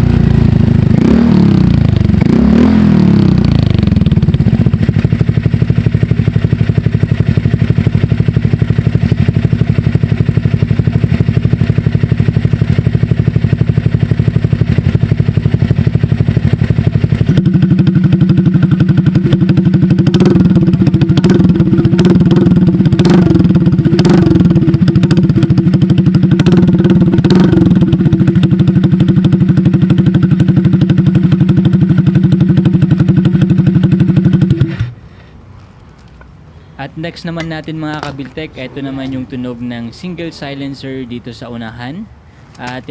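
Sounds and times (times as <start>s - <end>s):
exhaust cracks: 0.0s - 35.0s, 35.6s - 42.9s
scooter engine running: 0.0s - 35.0s, 36.8s - 42.9s.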